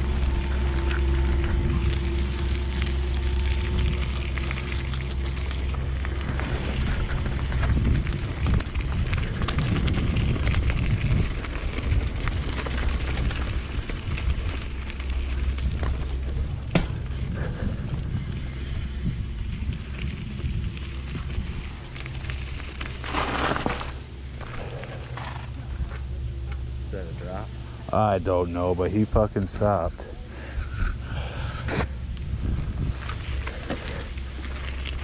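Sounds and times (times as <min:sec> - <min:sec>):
bike tyres rattling over dirt: 0:00.0 - 0:26.8, 0:27.6 - 0:35.0
low rumble: 0:00.0 - 0:35.0.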